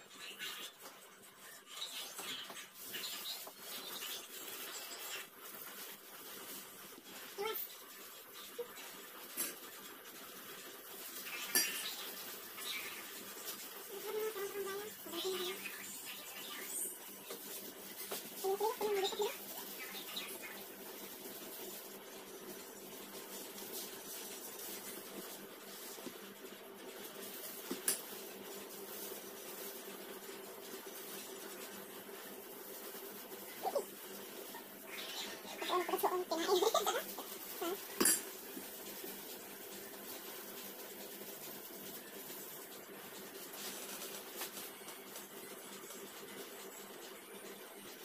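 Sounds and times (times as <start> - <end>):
plastic gloves rustling: 0.0 - 48.0.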